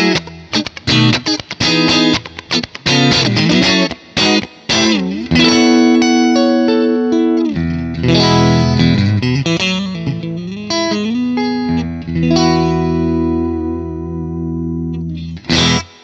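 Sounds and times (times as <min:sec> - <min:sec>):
electric guitar chords ringing: 0:00.0 - 0:16.0
electric guitar single notes: 0:00.0 - 0:16.0.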